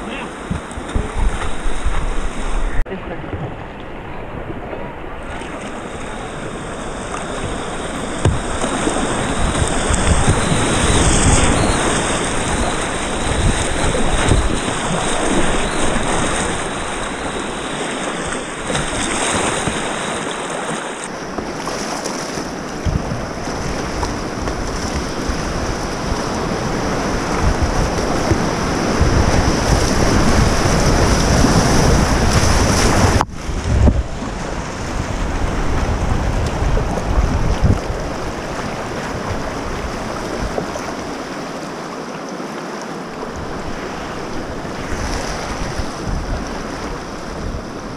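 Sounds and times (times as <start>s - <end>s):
wind buffeting microphone: 0.0s - 20.1s, 22.5s - 41.2s, 43.2s - 47.9s
paddle splashes: 0.0s - 47.9s
rushing whitewater rapids: 0.0s - 47.9s.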